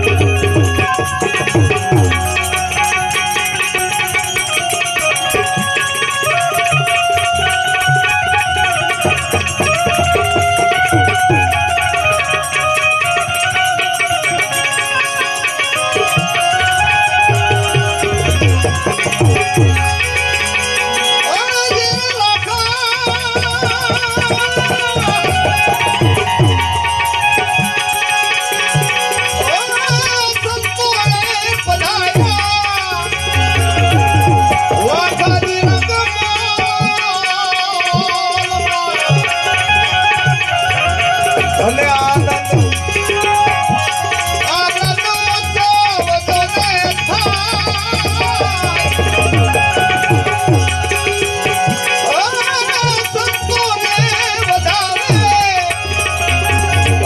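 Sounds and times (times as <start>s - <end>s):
continuous melodic line: 0.0s - 57.0s
tabla rhythm: 0.0s - 57.0s.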